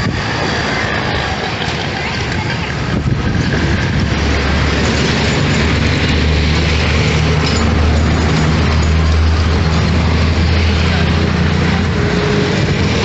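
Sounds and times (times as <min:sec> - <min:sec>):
jet passing with loud roar: 0:00.0 - 0:13.0.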